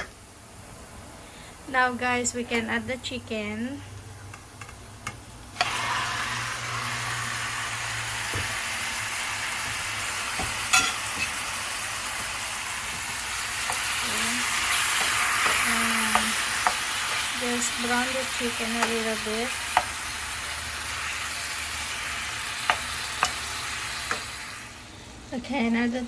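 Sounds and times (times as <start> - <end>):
frying sizzle in hot oil: 0.0 - 24.9.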